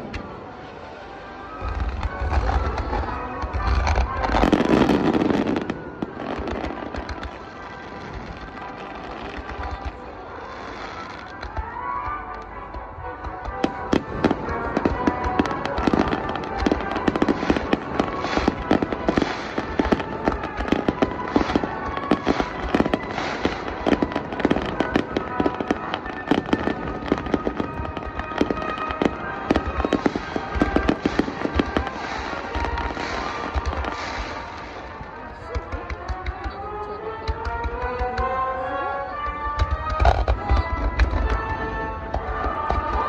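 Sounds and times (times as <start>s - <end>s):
fireworks bangs and crackles: 0.0s - 43.0s
music playing: 0.0s - 43.0s.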